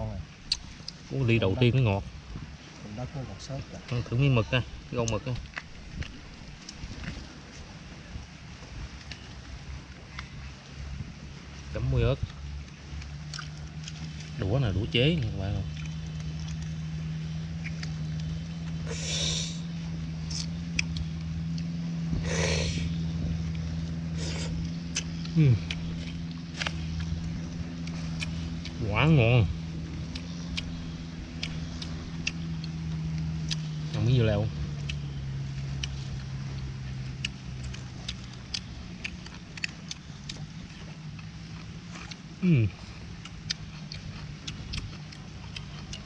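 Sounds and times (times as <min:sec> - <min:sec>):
engine humming: 0:00.0 - 0:46.0
low motor drone: 0:00.0 - 0:46.0.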